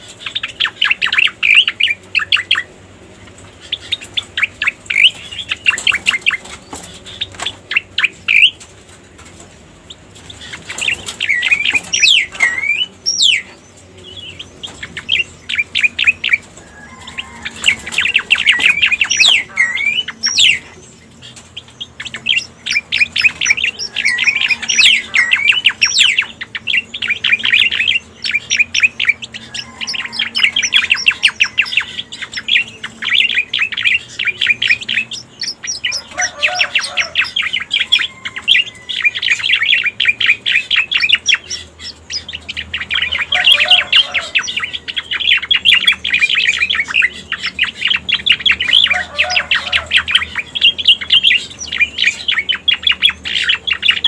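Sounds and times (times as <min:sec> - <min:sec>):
bird chirps and trills: 0:00.0 - 0:54.0.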